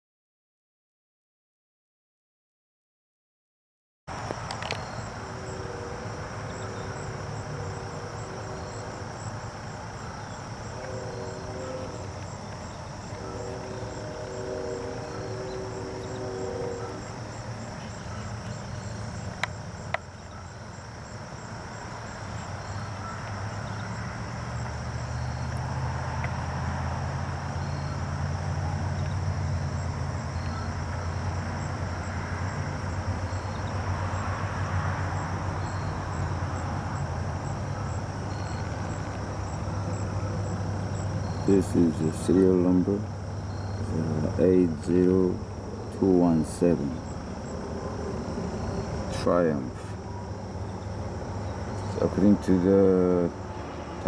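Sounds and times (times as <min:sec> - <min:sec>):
steady background noise: 0:04.1 - 0:54.0.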